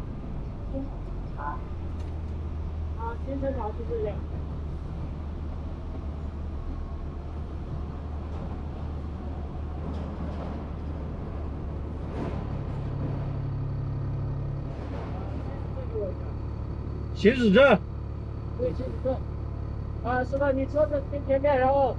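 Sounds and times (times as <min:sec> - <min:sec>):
truck diesel engine running: 0:00.0 - 0:21.9.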